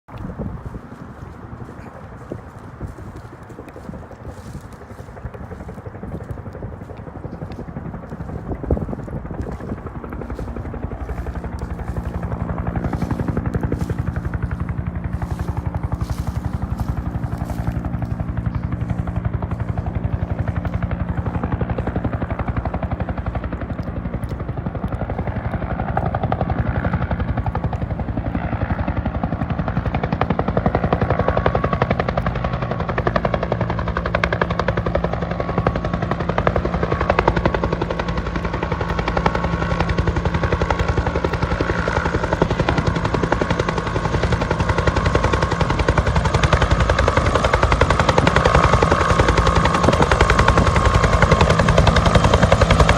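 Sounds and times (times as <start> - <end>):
engine whine: 0.1 - 52.9
helicopter rotor beating: 0.1 - 52.9.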